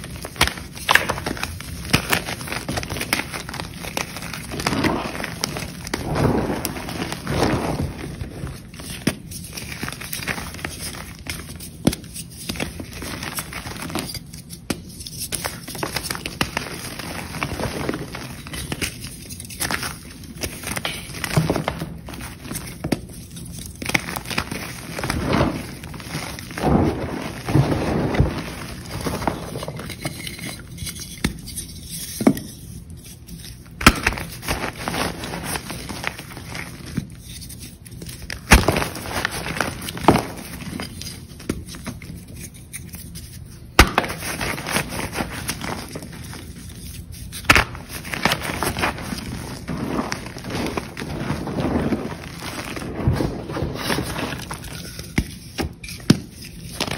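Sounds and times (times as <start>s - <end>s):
sharp cracks of chalk breaking: 0.0s - 32.6s, 33.4s - 56.9s
chalk crunching and crumbling: 0.0s - 56.9s.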